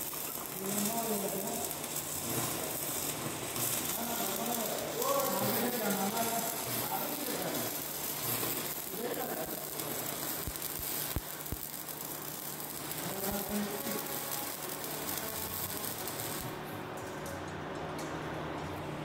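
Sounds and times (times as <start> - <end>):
welding arc crackling: 0.0 - 17.3.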